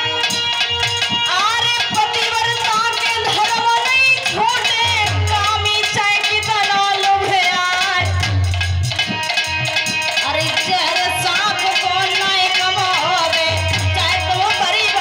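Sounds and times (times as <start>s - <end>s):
hand drum beats: 0.0s - 15.0s
held melody instrument: 0.0s - 15.0s.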